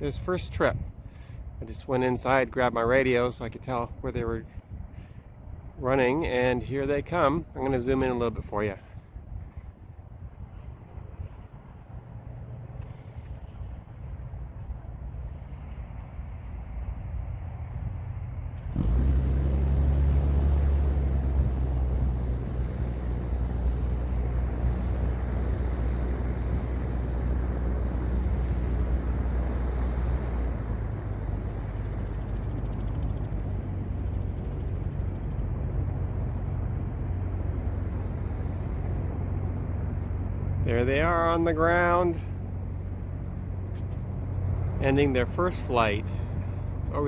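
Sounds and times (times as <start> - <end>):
gyroplane engine drone: 0.0 - 47.0
wind noise on microphone: 0.0 - 47.0.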